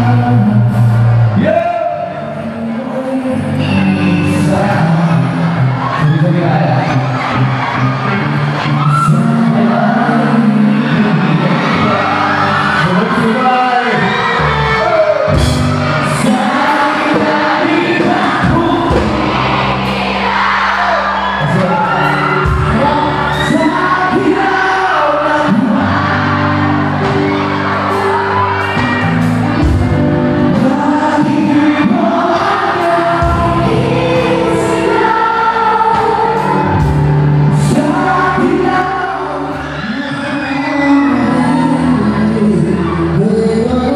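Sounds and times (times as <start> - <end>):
lead singer singing: 0.0 - 43.9
live rock band: 0.0 - 43.9.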